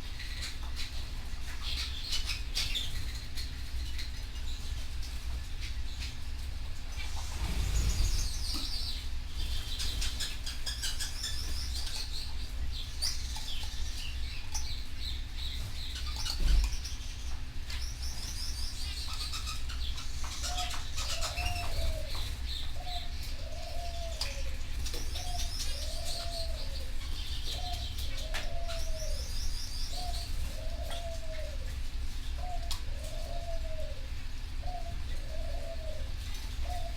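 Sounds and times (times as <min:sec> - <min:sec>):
canaries singing trills: 0:00.0 - 0:36.9
steady low hum: 0:00.0 - 0:36.9.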